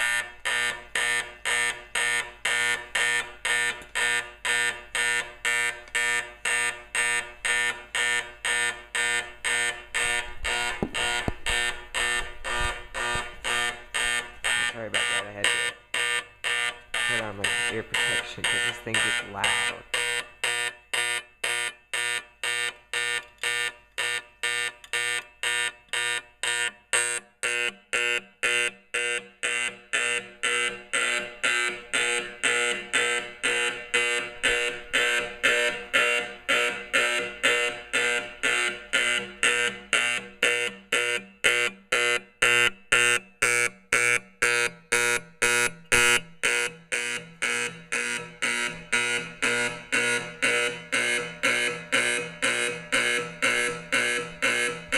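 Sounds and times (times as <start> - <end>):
pulsing fire alarm horn: 0.0 - 54.9.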